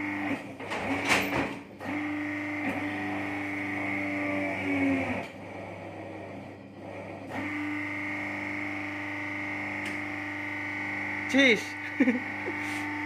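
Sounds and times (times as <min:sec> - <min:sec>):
molding machine whine: 0:00.0 - 0:13.0.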